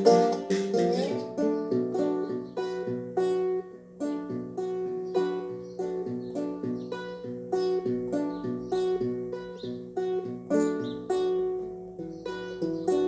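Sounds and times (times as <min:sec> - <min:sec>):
slide guitar plucked strings: 0:00.0 - 0:13.0.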